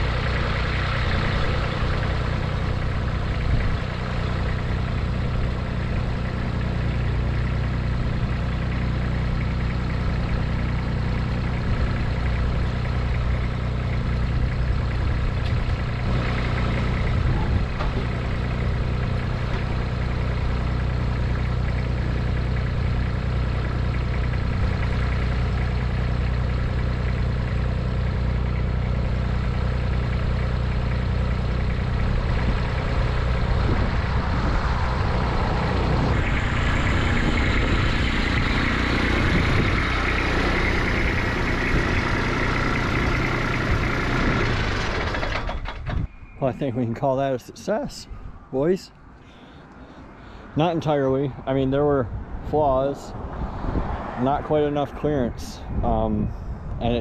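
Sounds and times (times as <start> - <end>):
tractor engine idling: 0.0 - 53.8.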